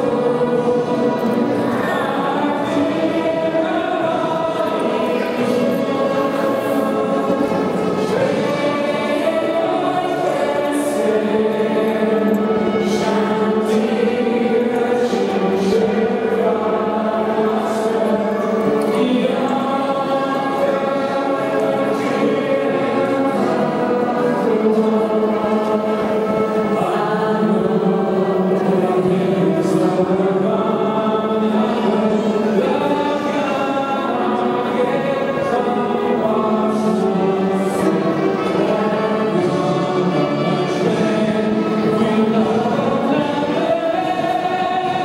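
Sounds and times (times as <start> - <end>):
children singing together: 0.0 - 45.0.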